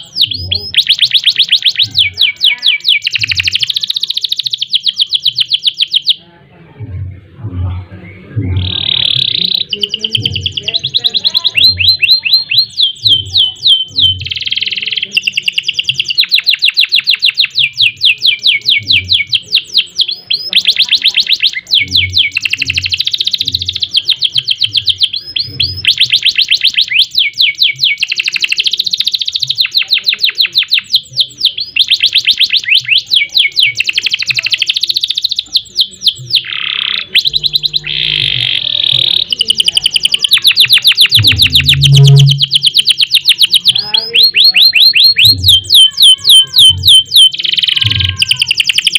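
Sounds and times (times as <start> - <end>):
canary singing trills: 0.0 - 6.4, 7.8 - 48.9.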